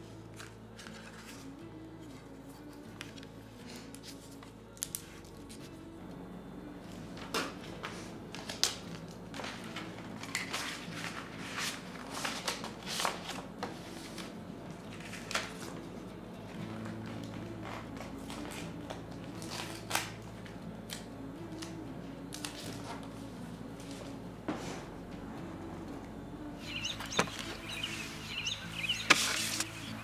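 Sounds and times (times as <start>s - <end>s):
paper rustling and crinkling: 0.1s - 5.8s, 7.1s - 24.9s, 26.8s - 30.0s.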